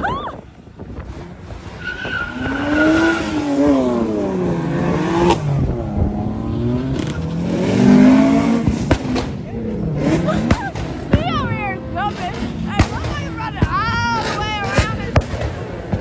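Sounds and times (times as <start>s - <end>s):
car engine revving hard: 0.8s - 16.0s.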